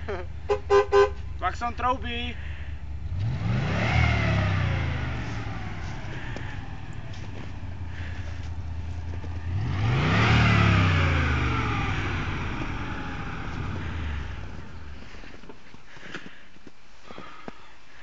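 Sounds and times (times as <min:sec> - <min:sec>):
engine idling and revving: 0:00.0 - 0:15.3.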